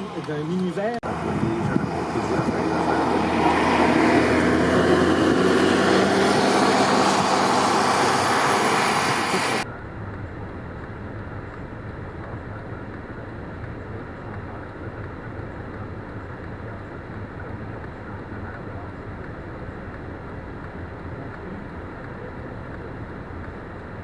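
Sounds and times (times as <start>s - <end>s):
vehicle rushing noise: 1.0s - 24.0s.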